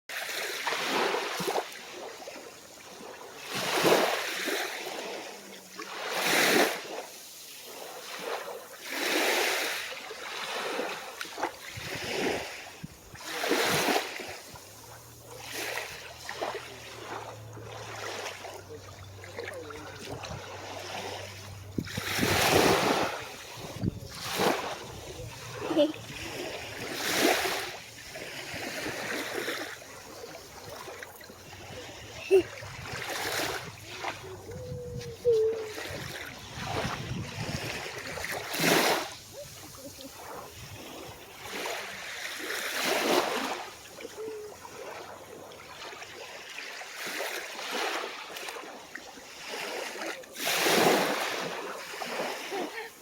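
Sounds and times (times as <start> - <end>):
sea waves washing onto shore: 0.1 - 53.0.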